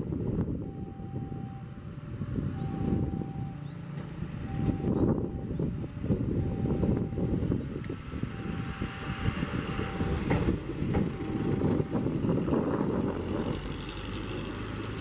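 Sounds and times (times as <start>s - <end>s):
rail car motor and wheel rumble: 0.0s - 15.0s.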